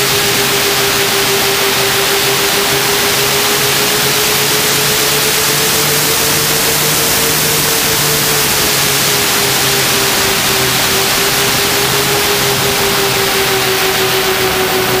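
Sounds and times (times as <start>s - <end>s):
model airplane motor droning: 0.0s - 15.0s.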